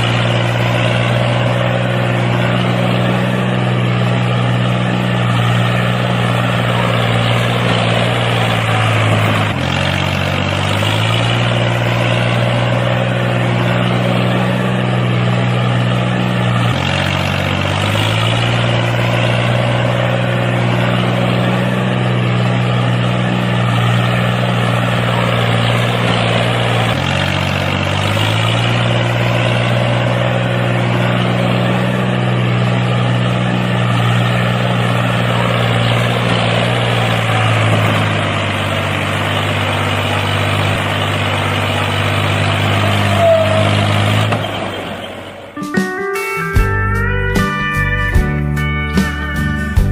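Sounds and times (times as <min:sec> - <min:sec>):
small tractor engine running: 0:00.0 - 0:49.9.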